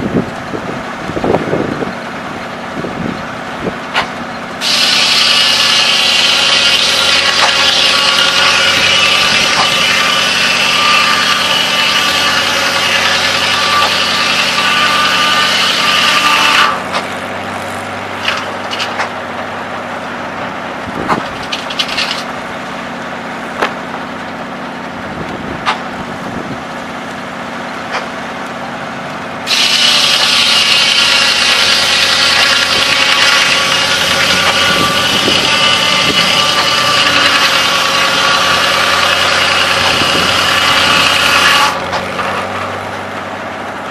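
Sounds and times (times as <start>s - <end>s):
engine running steadily: 0.0s - 43.9s
saw blade cutting log: 3.9s - 24.9s, 25.6s - 26.0s, 27.8s - 28.3s, 29.4s - 43.9s.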